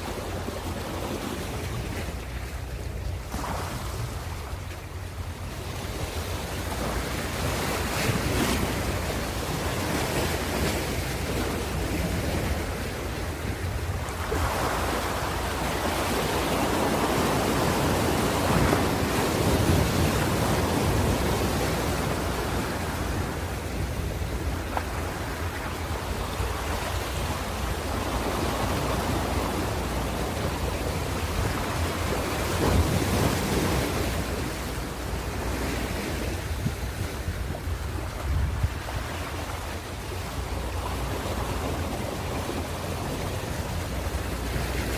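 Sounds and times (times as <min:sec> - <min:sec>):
ocean waves breaking: 0:00.0 - 0:44.9
wind buffeting microphone: 0:00.0 - 0:44.9.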